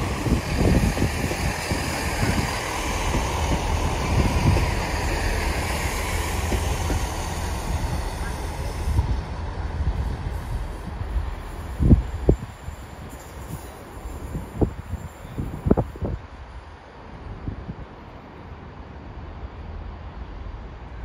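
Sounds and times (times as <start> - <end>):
diesel train engines running: 0.0 - 21.0
train wheels rumbling on rails: 0.0 - 21.0.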